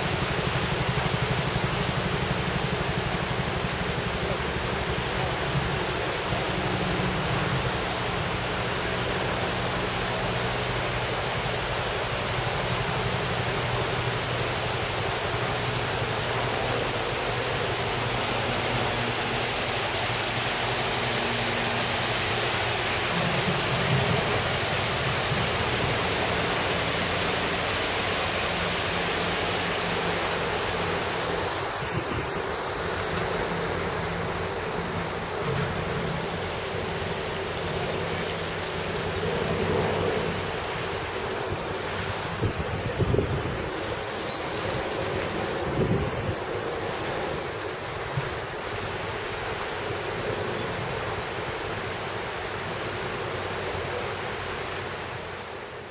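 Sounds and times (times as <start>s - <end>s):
water rushing over stones: 0.0s - 55.9s.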